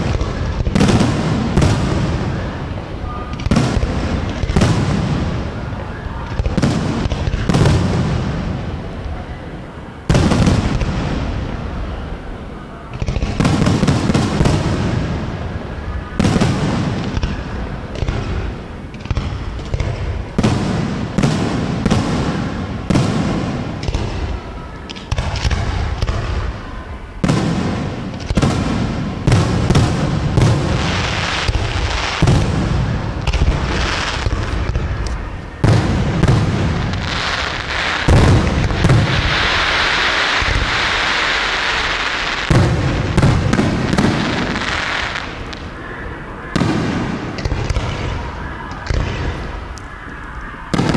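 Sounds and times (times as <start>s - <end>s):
fireworks bursting: 0.0s - 50.9s
fireworks crackling: 0.0s - 50.9s.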